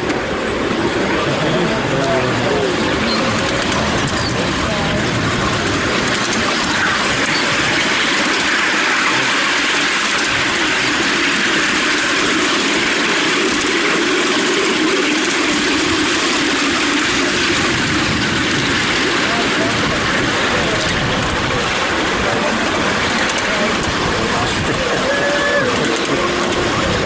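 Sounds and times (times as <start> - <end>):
miniature train wheels rumbling: 0.0 - 27.0.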